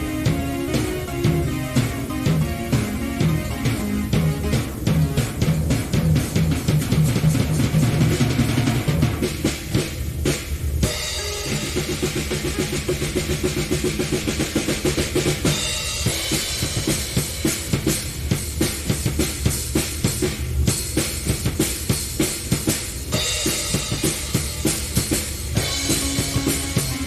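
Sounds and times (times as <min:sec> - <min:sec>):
held keyboard chords: 0:00.0 - 0:10.0, 0:10.8 - 0:18.9, 0:23.0 - 0:27.0
drum kit playing: 0:00.0 - 0:27.0.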